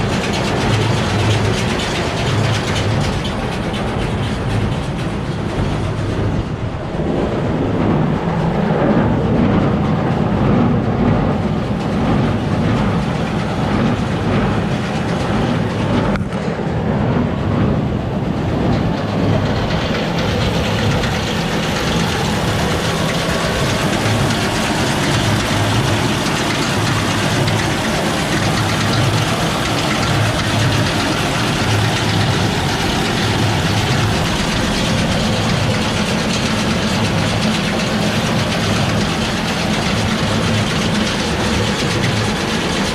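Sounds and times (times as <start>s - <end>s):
baler running mechanical rhythm: 0.0s - 42.9s
tractor engine: 0.0s - 42.9s.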